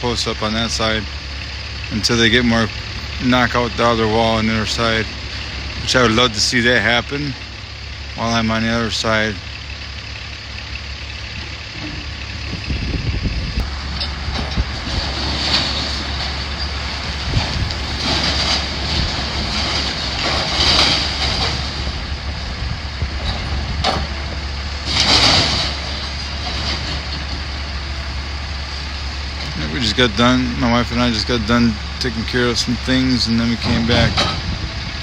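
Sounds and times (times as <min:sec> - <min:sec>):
demolition machinery diesel rumble: 0:00.0 - 0:35.0.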